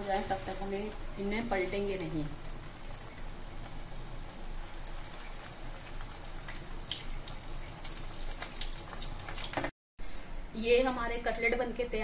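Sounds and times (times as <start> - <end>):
food deep-frying in oil: 0.0 - 9.7.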